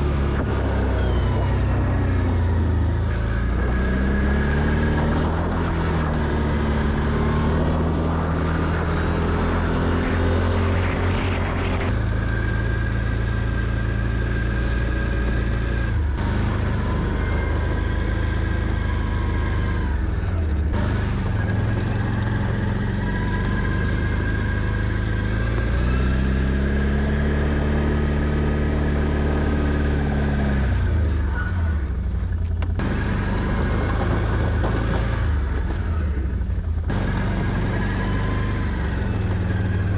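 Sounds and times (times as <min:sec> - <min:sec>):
atv engine revving under load: 0:00.0 - 0:39.9.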